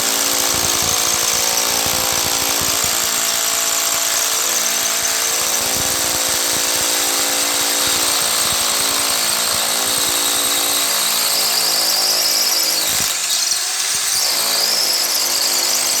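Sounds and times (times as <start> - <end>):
electric drill whining: 0.0 - 16.0.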